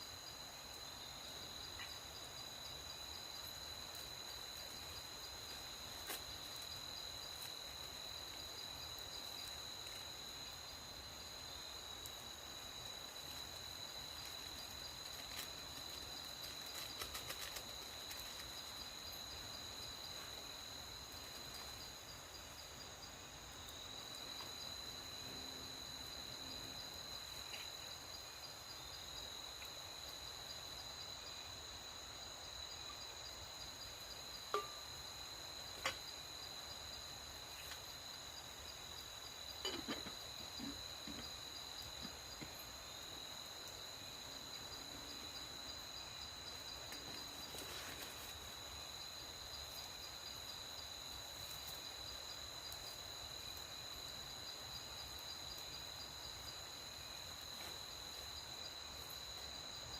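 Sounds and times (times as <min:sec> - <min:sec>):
night insects chirring: 0:00.0 - 0:59.9.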